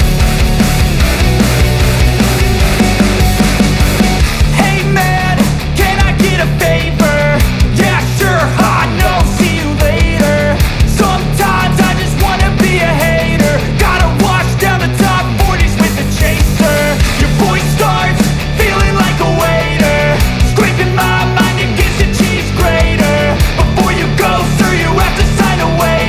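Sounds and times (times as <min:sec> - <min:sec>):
driving drum beat: 0:00.0 - 0:26.0
rock music: 0:00.0 - 0:26.0.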